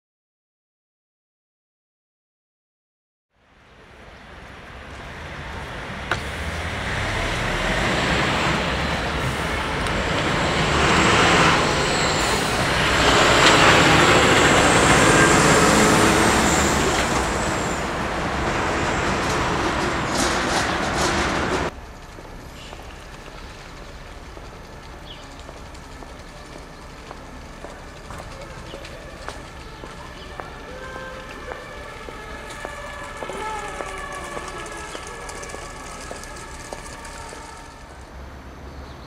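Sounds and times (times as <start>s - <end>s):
street traffic: 3.4s - 39.0s
large truck passing: 3.5s - 39.0s.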